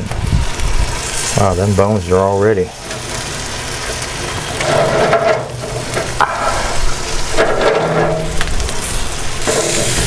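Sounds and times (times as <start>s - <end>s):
meat sizzling on a smoker: 0.0s - 10.0s.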